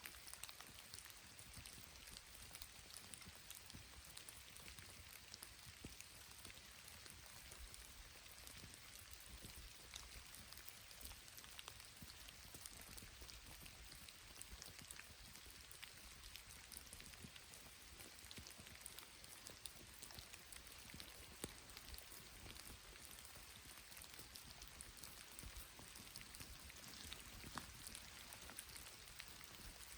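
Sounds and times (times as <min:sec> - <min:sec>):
light rain hiss: 0:00.0 - 0:29.9
raindrops ticking: 0:00.1 - 0:29.9.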